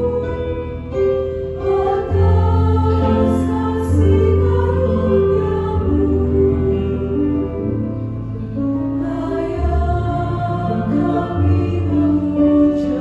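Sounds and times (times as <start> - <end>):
choir singing a hymn: 0.0 - 13.0
keyboard accompaniment: 0.0 - 13.0.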